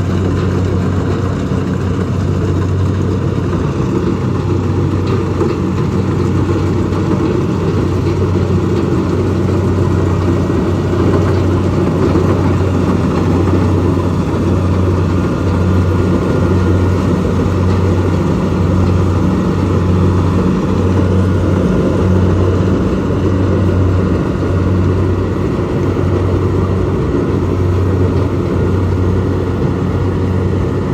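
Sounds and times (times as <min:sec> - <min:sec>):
diesel engine humming: 0:00.0 - 0:30.9.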